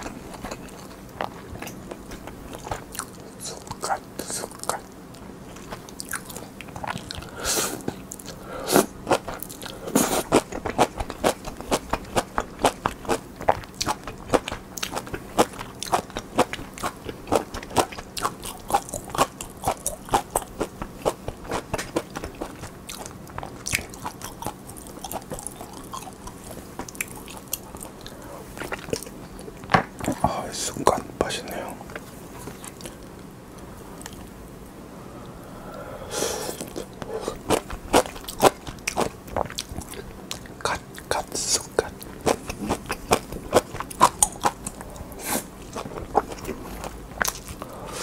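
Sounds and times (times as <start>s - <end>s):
chewing crunchy kimchi: 0.0s - 33.2s, 36.4s - 48.0s.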